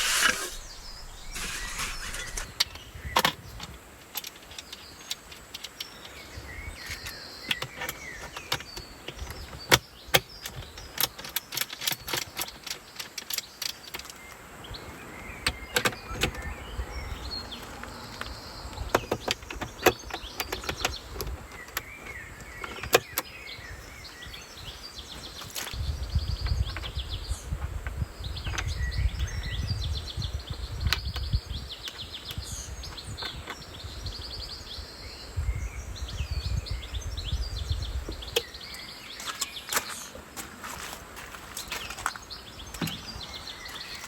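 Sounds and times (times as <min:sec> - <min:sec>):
small birds chirping and trilling: 0:00.0 - 0:44.0.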